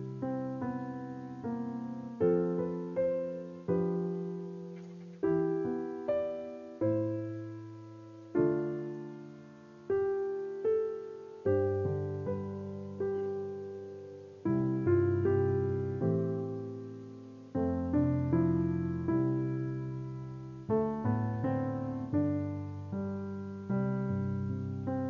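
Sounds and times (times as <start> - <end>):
slow solo piano: 0.0 - 25.0.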